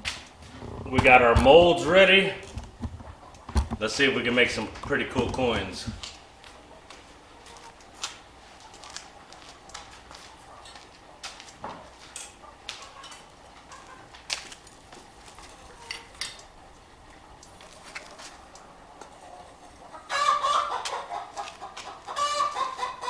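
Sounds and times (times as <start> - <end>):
faint clicks and knocks: 0.0 - 19.9
chickens cackling loudly: 0.3 - 23.0.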